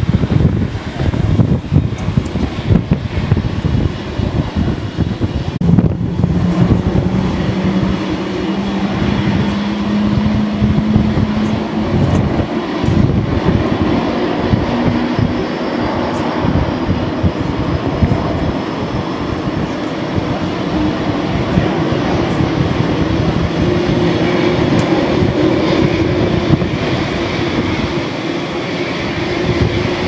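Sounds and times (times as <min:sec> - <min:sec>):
jet engines at taxi power: 0:00.0 - 0:30.0
wind gusting on microphone: 0:00.0 - 0:30.0
steady rising hum: 0:02.9 - 0:30.0.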